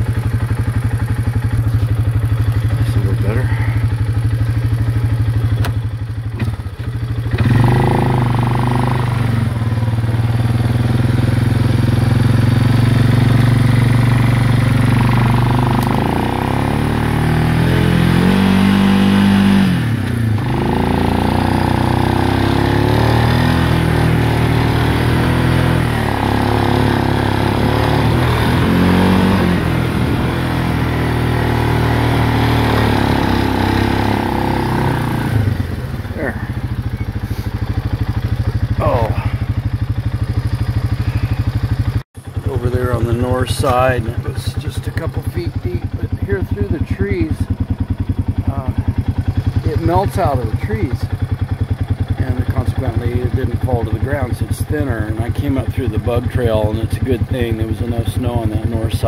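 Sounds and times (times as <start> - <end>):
quad engine revving under load: 0.0 - 59.0.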